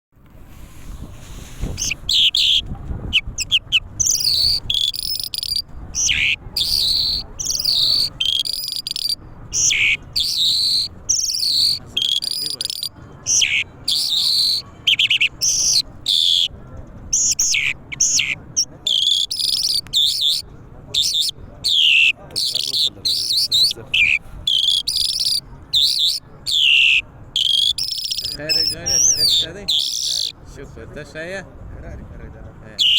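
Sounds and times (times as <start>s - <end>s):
lark singing: 1.8s - 16.5s, 17.1s - 20.4s, 21.0s - 30.4s.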